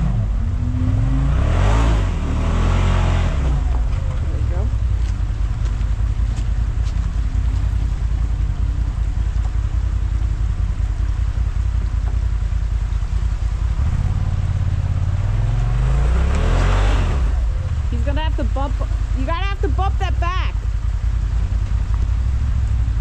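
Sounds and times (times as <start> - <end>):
utility vehicle engine revving: 0.0 - 23.0.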